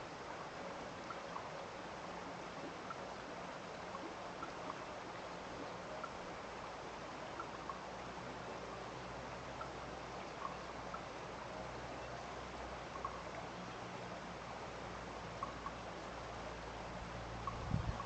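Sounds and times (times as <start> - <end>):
stream of flowing water: 0.0 - 18.0
small water drips: 0.1 - 18.0.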